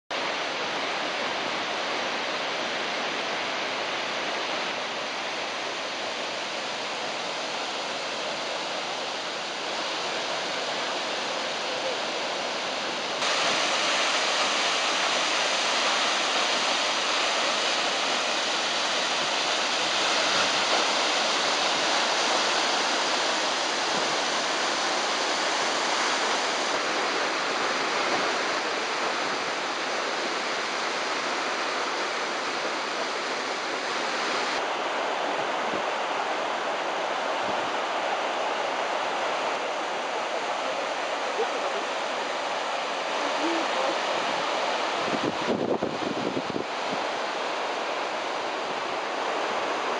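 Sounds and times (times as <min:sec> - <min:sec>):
waterfall rushing: 0:00.1 - 0:49.9
river rapids rushing: 0:00.2 - 0:49.9.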